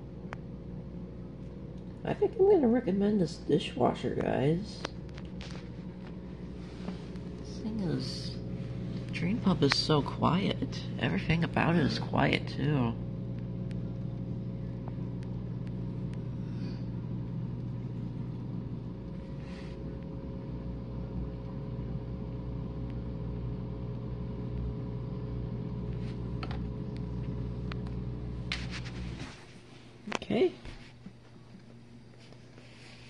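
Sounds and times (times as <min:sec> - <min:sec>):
dishwasher drain pump humming: 0:00.0 - 0:33.0.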